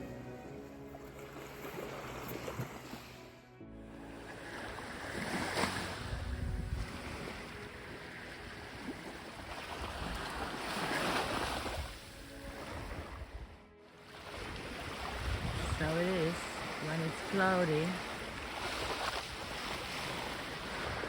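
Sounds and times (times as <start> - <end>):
waves breaking on beach: 4.0 - 21.0.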